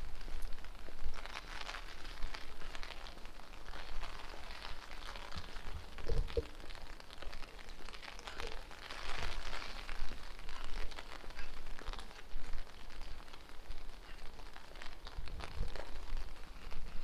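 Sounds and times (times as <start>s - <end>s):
rain pattering on street: 0.0s - 17.0s.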